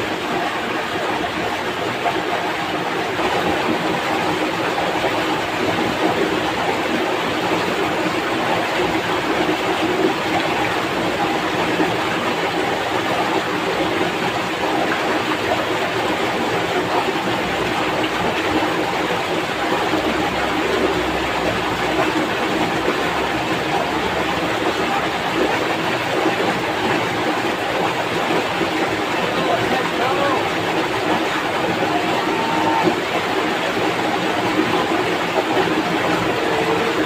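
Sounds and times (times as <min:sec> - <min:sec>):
stream rushing over rocks: 0:00.0 - 0:37.0.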